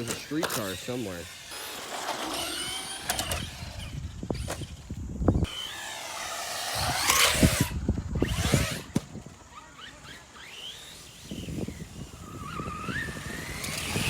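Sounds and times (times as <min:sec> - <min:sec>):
rc car electric motors whining: 0:00.0 - 0:14.0.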